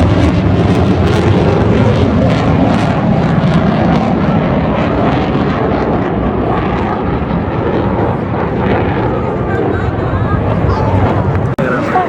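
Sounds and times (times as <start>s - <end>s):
aircraft engine rumble: 0.0s - 12.0s.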